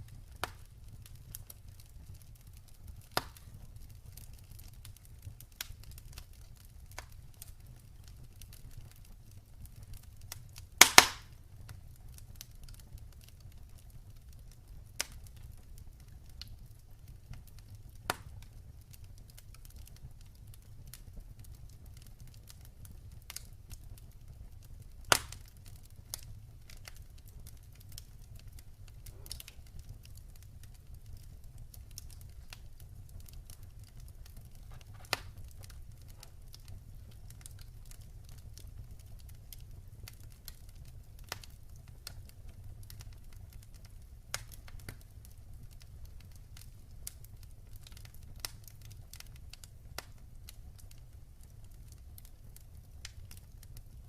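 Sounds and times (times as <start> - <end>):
sharp pops from fire: 0.0 - 54.0
wood fire crackling: 0.0 - 54.0.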